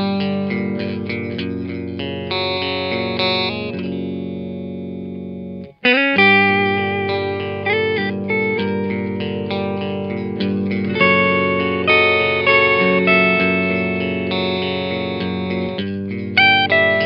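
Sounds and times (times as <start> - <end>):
clean electric guitar: 0.0 - 17.0.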